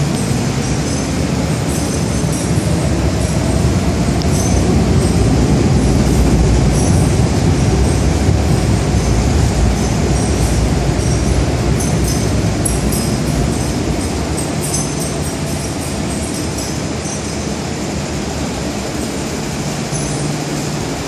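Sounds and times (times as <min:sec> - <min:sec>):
faint high wheel squeal: 0:00.0 - 0:18.1, 0:19.0 - 0:21.0
metro train rumbling: 0:00.0 - 0:21.0.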